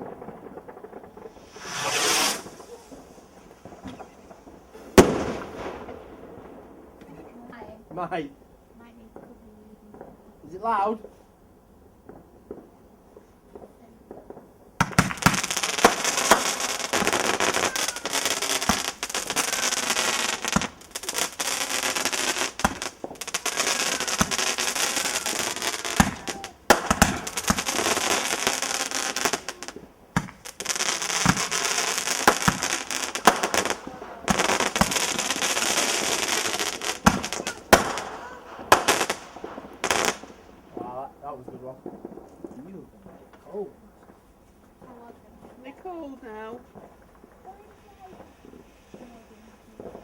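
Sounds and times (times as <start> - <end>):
fireworks crackling and banging: 0.0 - 50.0.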